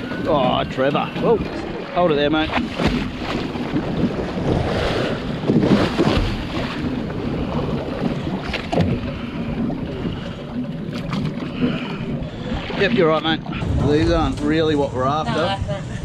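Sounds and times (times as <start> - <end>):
water washing along boat hull: 0.0 - 16.0
wind buffeting microphone: 0.0 - 16.0.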